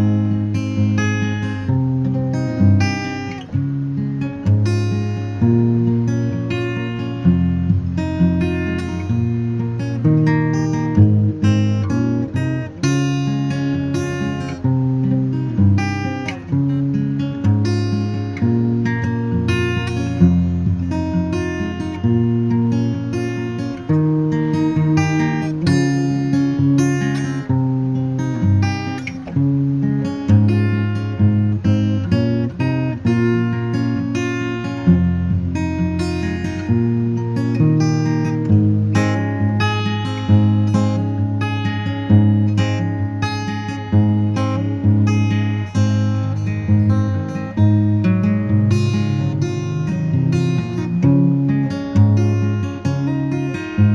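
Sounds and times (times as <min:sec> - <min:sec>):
acoustic guitar music: 0:00.0 - 0:53.9.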